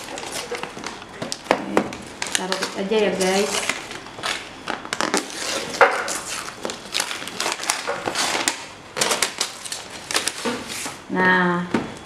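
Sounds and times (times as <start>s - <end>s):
wrapping paper tearing: 0.0s - 11.0s.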